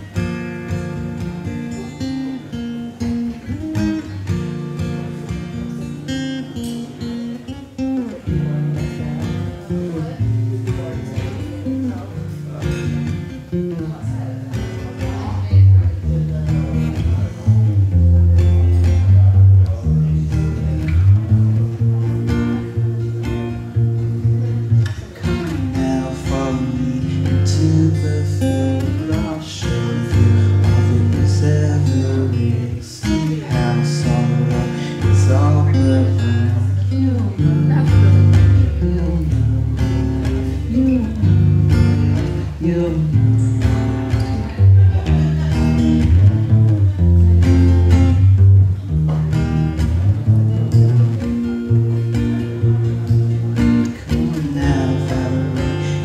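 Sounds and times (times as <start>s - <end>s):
acoustic guitar strumming and picking: 0.0s - 56.0s
man singing: 5.8s - 48.4s, 50.3s - 56.0s
low bass notes: 8.0s - 56.0s.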